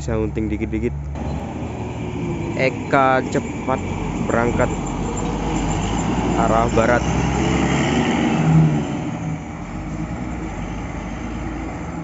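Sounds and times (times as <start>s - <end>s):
bus diesel engine pulling away: 0.0s - 12.0s.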